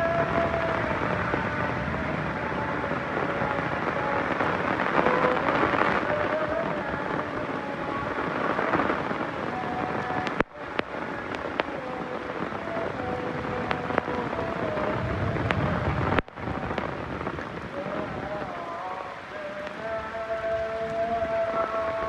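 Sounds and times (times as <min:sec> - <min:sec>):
heavy rain pouring: 0:00.0 - 0:22.0
thunder rumbling: 0:00.0 - 0:22.0.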